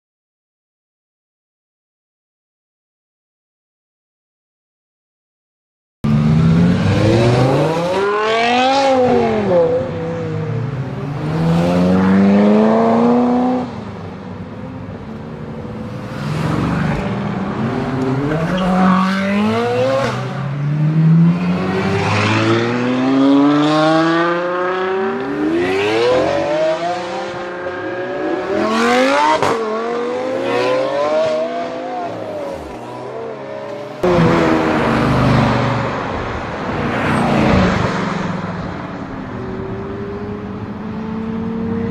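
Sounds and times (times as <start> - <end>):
car engines revving past: 6.1 - 14.1, 15.7 - 41.9.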